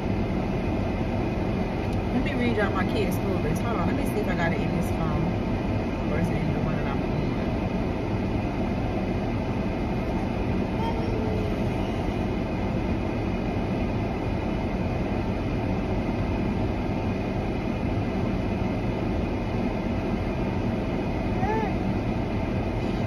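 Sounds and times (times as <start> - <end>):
car cabin rumble and hiss: 0.0 - 23.0.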